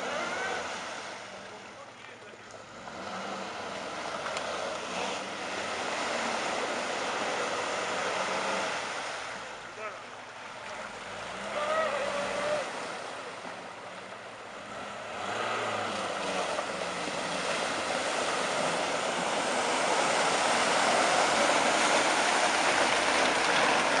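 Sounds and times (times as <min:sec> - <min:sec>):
car engine running: 0:00.0 - 0:24.0
water splashing around wheels: 0:00.0 - 0:24.0.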